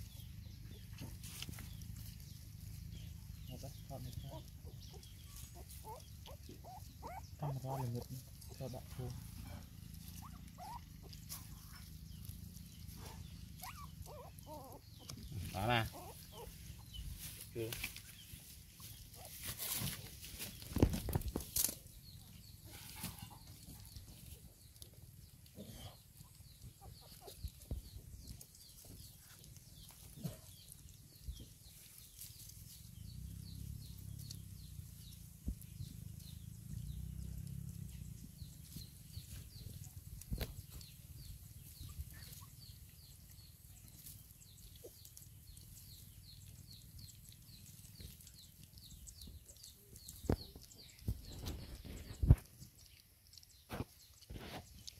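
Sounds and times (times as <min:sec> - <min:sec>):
puppies chewing and lapping: 0:00.0 - 0:54.9.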